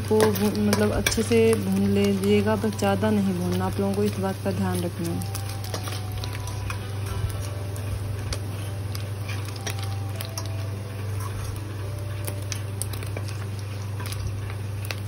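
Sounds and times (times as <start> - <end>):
hot oil crackling and sputtering: 0.0 - 15.0
steady low hum: 0.0 - 15.0.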